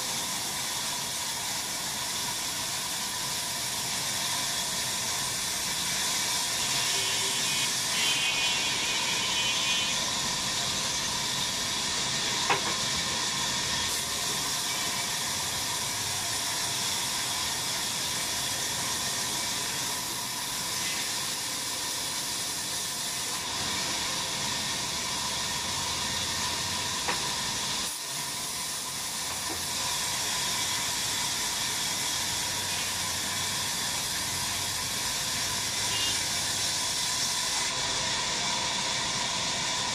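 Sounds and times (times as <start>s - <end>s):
faint steady whine: 0.0s - 36.2s.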